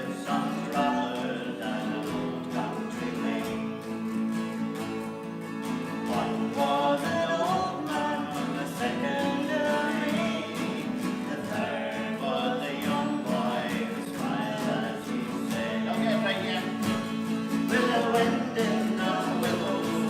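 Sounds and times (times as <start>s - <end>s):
person singing: 0.0s - 4.2s, 6.0s - 20.0s
plucked acoustic guitar: 0.0s - 20.0s.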